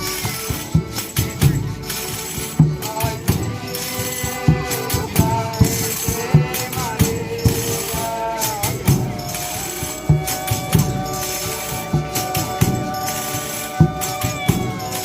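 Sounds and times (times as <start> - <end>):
sustained bending melody: 0.0 - 15.0
tambourines jingling: 0.0 - 15.0.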